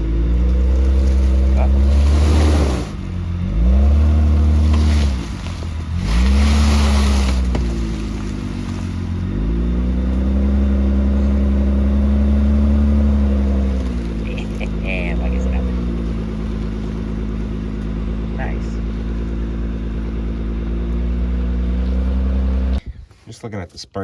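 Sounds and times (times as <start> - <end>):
car engine revving under load: 0.0 - 22.8.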